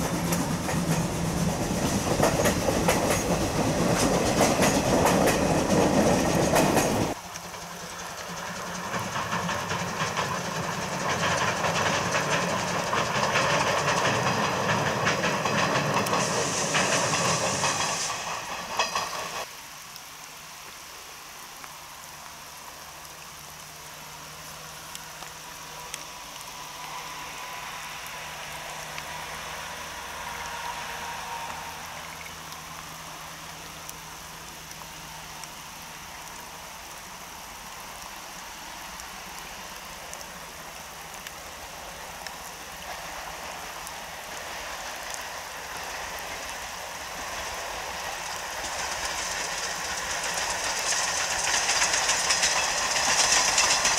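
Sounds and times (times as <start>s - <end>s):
distant steam locomotive: 0.0s - 53.9s
steady rain falling: 0.0s - 53.9s.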